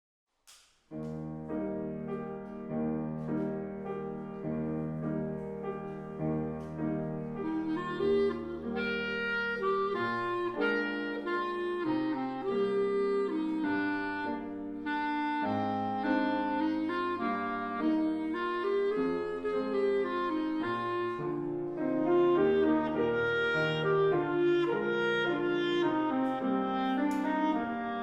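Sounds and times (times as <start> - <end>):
clarinet duet: 1.0 - 28.0.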